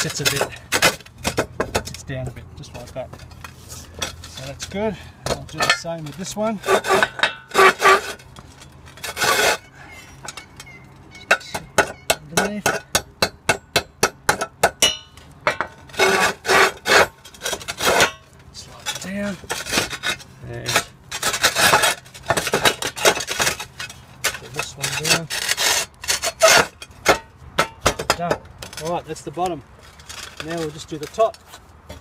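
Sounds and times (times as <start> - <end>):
rough rasping scraping: 0.0 - 32.0.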